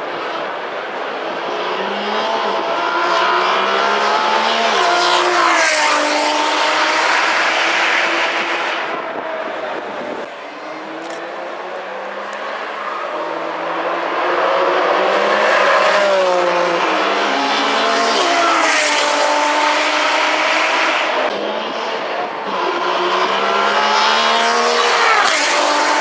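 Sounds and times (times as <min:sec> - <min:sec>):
car engine accelerating hard: 0:00.2 - 0:26.0.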